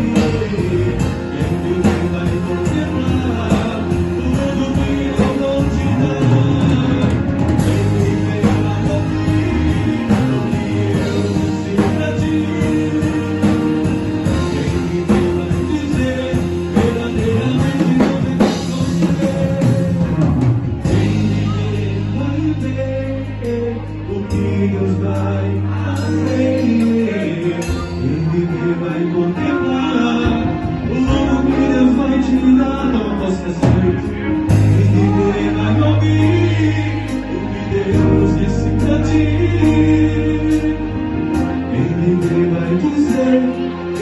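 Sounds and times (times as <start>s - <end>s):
instrumental gospel band: 0.0s - 44.0s.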